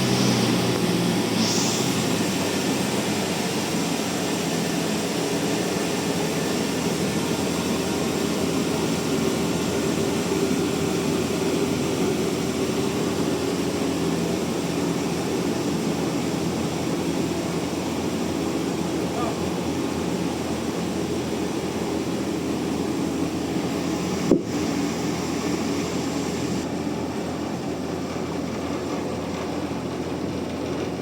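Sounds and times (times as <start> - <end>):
bandsaw mill droning: 0.0 - 31.0.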